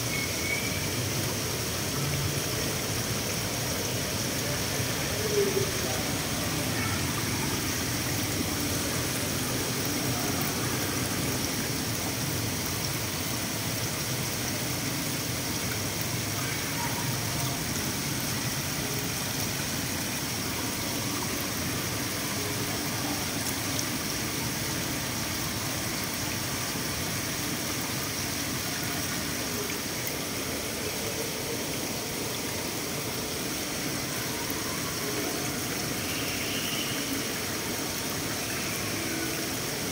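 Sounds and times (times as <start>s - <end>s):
water pouring into a pond: 0.0s - 39.9s.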